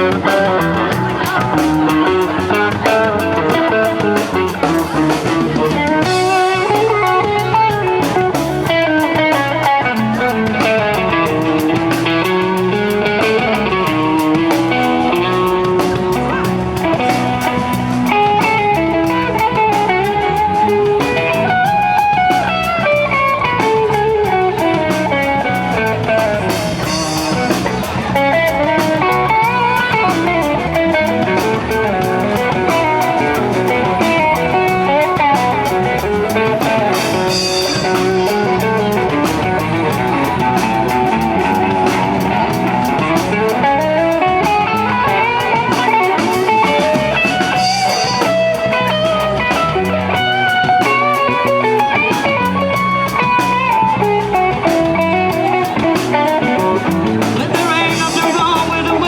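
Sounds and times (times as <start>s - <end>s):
drum kit: 0.0s - 59.0s
electric guitar lead: 0.0s - 59.0s.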